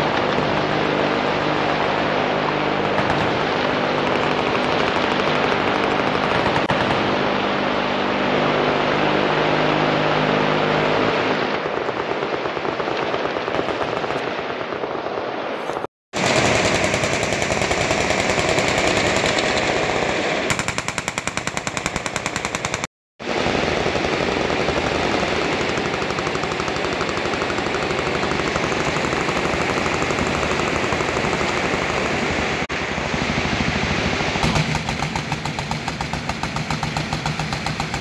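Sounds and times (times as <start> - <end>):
machine guns firing: 0.0 - 7.4, 11.6 - 15.0, 16.2 - 38.0.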